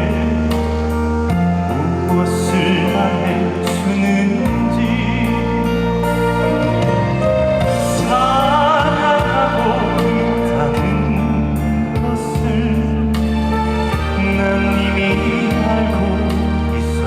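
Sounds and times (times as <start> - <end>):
song with wavering lead melody: 0.0 - 17.0.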